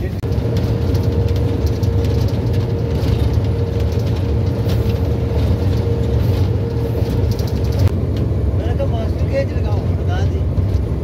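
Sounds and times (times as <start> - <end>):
constant hum: 0.0 - 11.0
train low rumble: 0.0 - 11.0.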